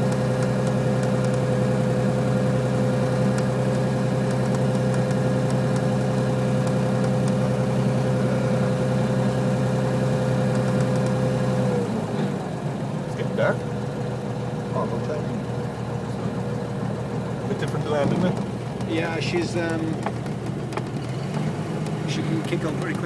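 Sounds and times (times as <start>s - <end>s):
light aircraft engine running: 0.0s - 23.0s.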